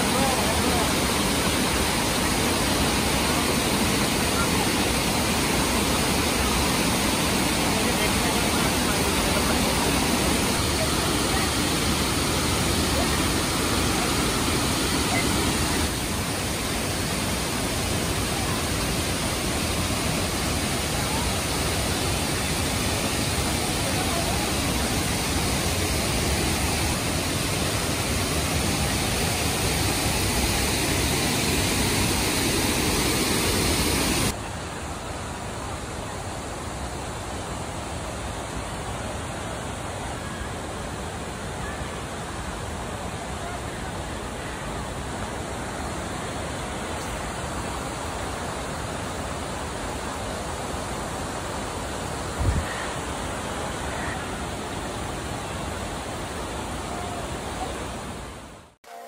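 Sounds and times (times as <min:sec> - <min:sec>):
dull rush of flowing water: 0:00.0 - 0:59.0
waterfall rushing: 0:00.0 - 0:59.0.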